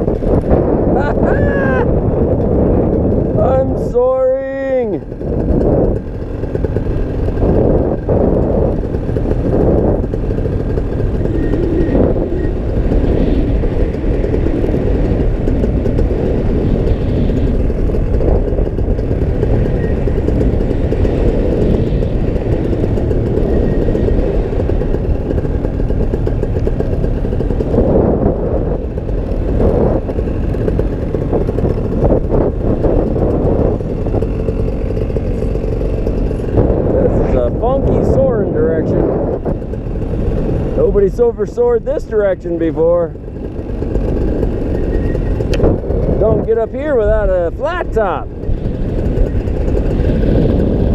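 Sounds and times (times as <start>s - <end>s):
paramotor engine running: 0.0s - 50.9s.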